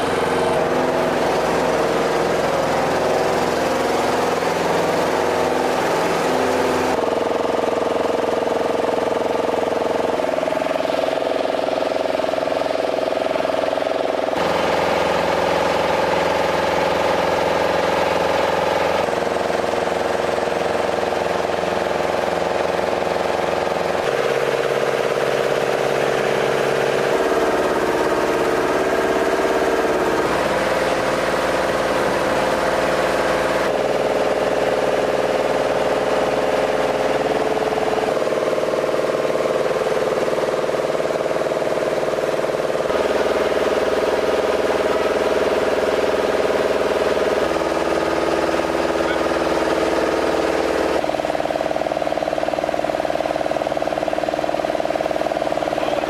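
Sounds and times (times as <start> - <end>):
machine engine running: 0.0 - 56.0.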